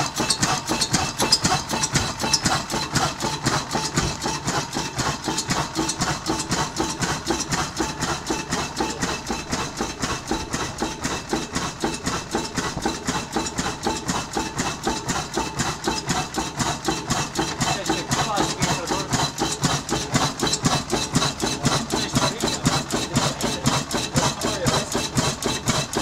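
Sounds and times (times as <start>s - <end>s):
diesel engine knocking: 0.0s - 26.0s
engine hum: 0.0s - 26.0s.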